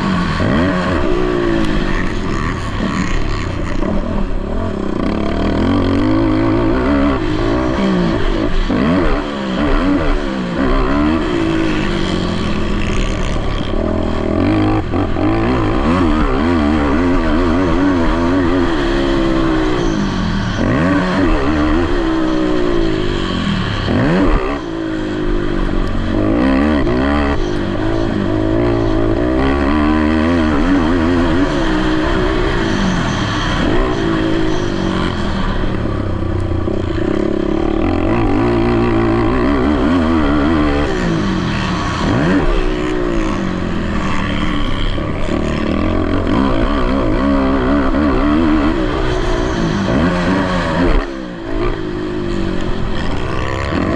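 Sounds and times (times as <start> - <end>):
racing engines revving: 0.0 - 53.9.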